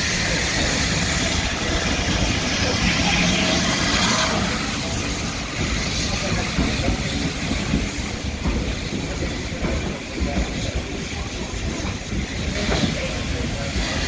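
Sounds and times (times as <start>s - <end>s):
train rumbling with knocks: 0.0s - 14.0s.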